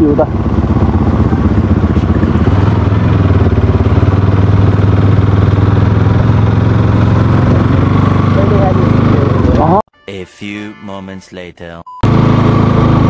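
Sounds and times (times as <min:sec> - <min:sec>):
motorcycle engine running: 0:00.0 - 0:09.8, 0:12.0 - 0:13.0.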